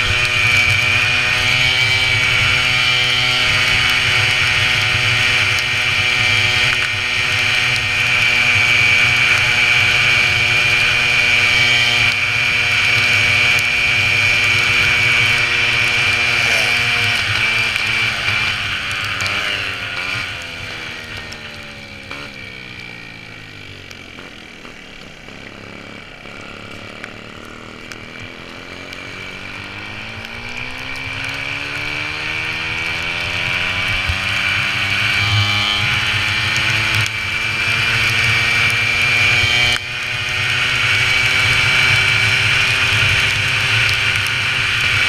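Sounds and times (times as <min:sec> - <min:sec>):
small two-stroke engine running: 0:00.0 - 0:45.0.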